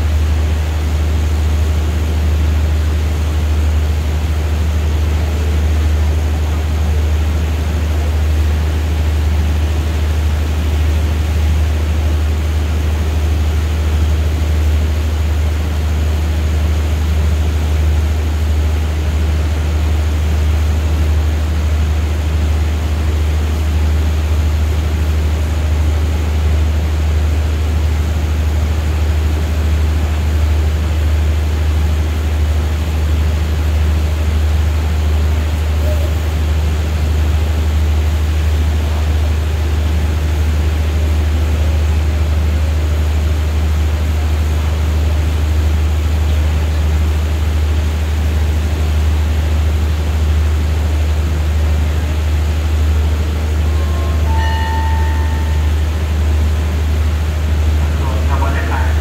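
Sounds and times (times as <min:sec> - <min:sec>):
diesel train engines idling: 0:00.0 - 0:59.0.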